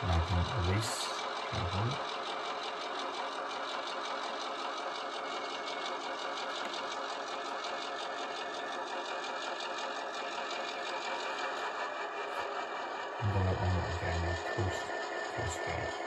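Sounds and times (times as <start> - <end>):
diesel engine through small speaker: 0.0 - 16.0.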